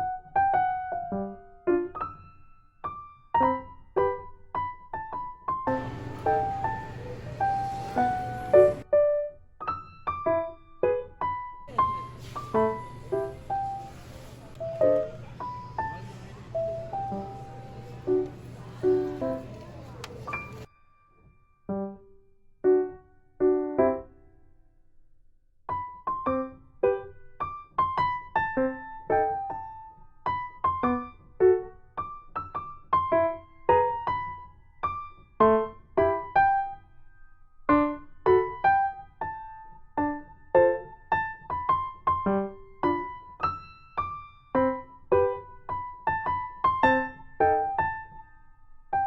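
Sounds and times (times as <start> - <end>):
cheerful piano tune: 0.0 - 24.4, 25.7 - 49.0.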